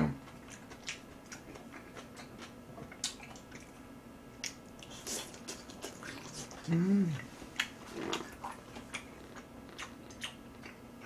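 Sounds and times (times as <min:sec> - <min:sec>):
faint low hum: 0:00.0 - 0:11.0
chewing mouth sounds: 0:00.2 - 0:03.8, 0:04.4 - 0:11.0.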